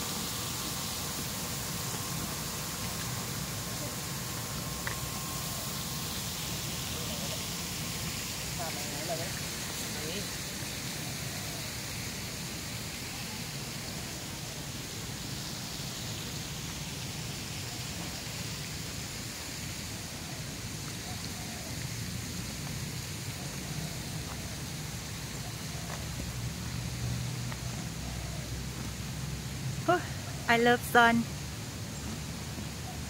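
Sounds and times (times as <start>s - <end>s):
outdoor hiss: 0.0s - 33.0s.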